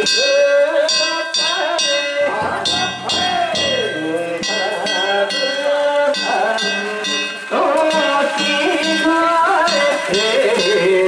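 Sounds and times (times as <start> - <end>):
hand gongs struck in rhythm: 0.0 - 11.0
wavering melody: 0.0 - 11.0.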